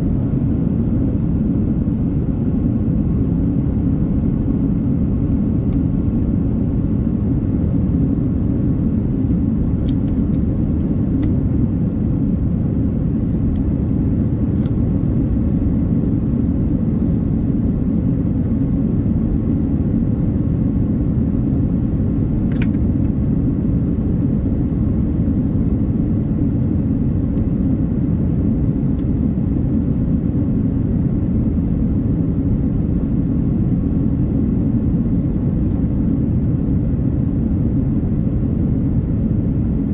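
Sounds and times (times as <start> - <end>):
aircraft cabin engine rumble: 0.0 - 39.9
faint steady hum: 0.0 - 39.9.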